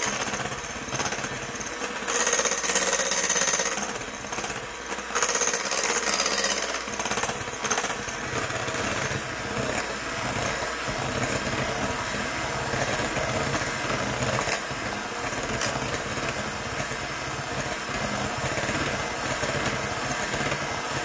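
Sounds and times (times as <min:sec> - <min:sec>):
electric hand mixer whirring: 0:00.0 - 0:21.0.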